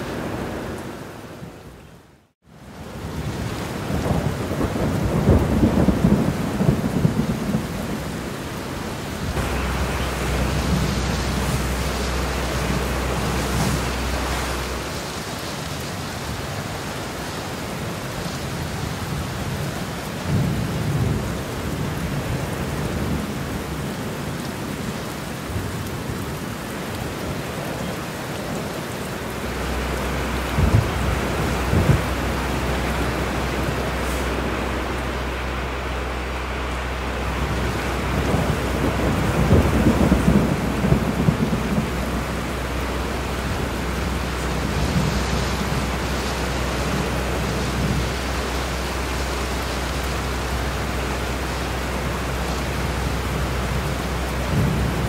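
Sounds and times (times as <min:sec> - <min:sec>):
heavy rain: 0:00.0 - 0:55.0
thunder rumbling: 0:02.6 - 0:55.0.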